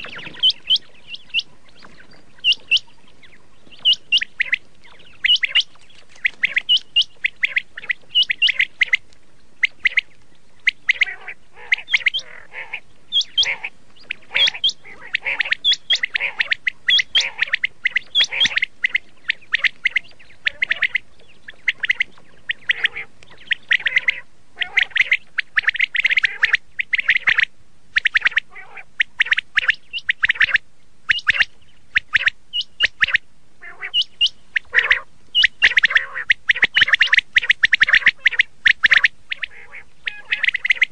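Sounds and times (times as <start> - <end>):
faint steady hiss: 0.0 - 40.9
quail calling: 0.0 - 40.9.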